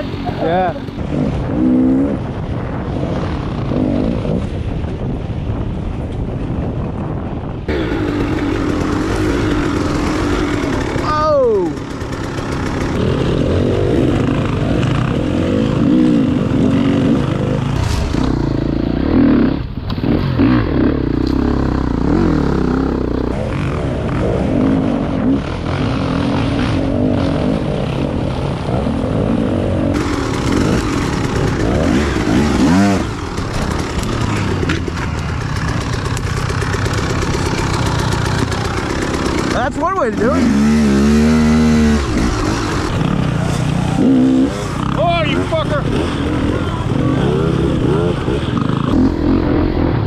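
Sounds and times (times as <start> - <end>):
dirt bike engine revving: 0.0 - 4.8, 7.7 - 50.0.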